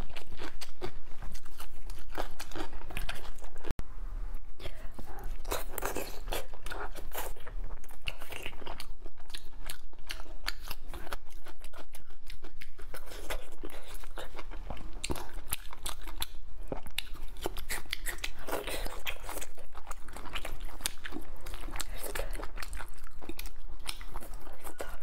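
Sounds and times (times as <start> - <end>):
close chewing and crunching: 0.0 - 3.8, 4.6 - 25.0.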